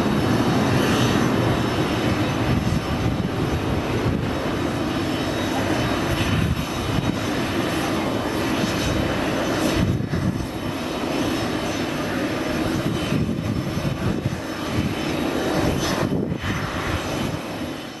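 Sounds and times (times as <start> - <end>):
helicopter rotor and engine noise: 0.0 - 18.0.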